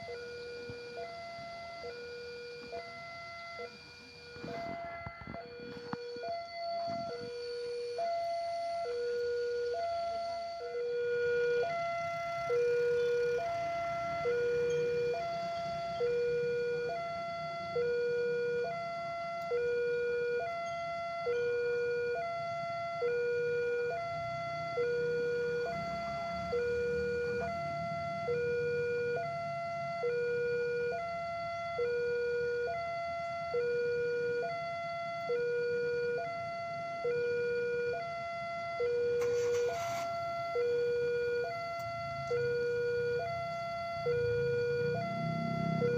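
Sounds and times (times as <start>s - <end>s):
level crossing two-tone alarm: 0.0s - 45.9s.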